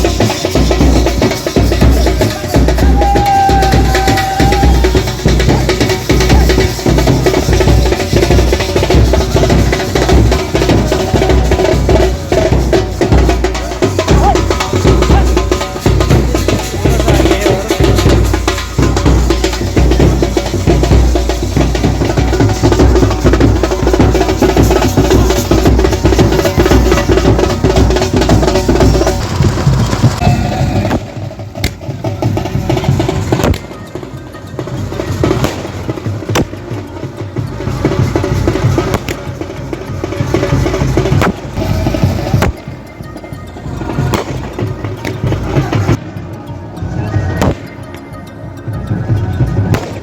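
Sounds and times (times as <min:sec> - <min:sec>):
procession song with heavy drums: 0:00.0 - 0:50.0
wedding band music: 0:00.0 - 0:50.0.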